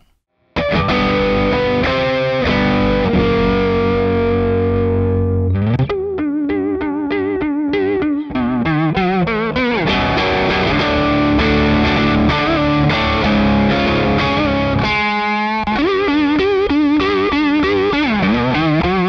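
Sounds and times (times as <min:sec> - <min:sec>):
electric guitar with vibrato: 0:00.0 - 0:19.0.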